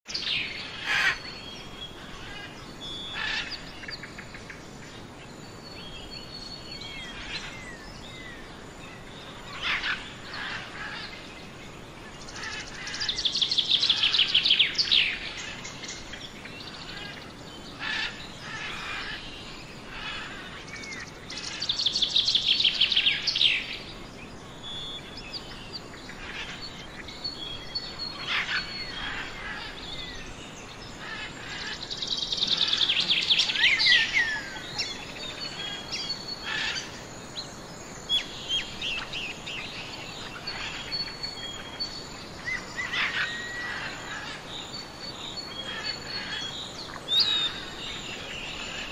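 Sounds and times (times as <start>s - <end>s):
birds calling and chirping: 0.1s - 48.9s
steady background hiss: 0.1s - 48.9s.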